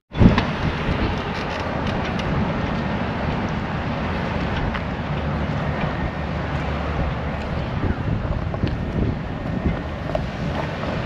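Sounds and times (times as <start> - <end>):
road traffic rumble: 0.1 - 11.0.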